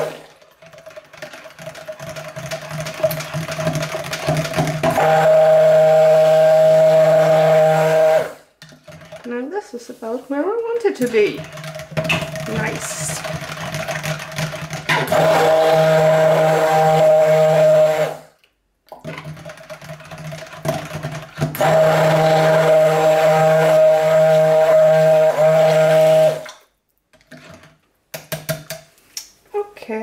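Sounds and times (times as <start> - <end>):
stick blender running: 0.0 - 18.3, 19.1 - 26.5.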